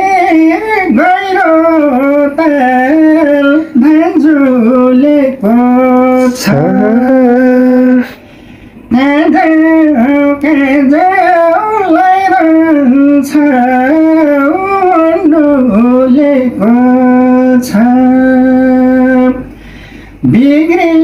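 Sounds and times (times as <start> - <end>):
man singing solo: 0.0 - 8.2, 8.9 - 19.5, 20.2 - 21.0.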